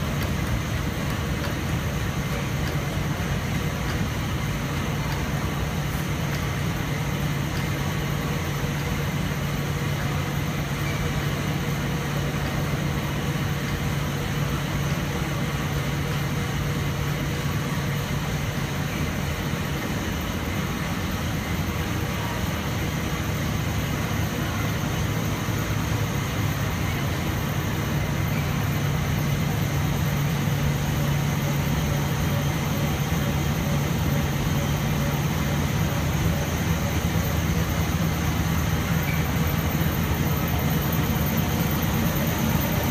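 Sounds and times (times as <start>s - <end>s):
printing machine hum: 0.0s - 42.9s.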